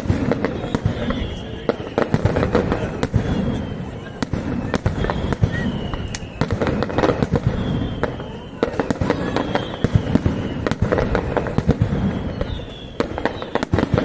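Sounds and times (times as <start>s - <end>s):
firework bangs and crackles: 0.0s - 14.0s
firework whistle falling in pitch: 0.0s - 14.0s.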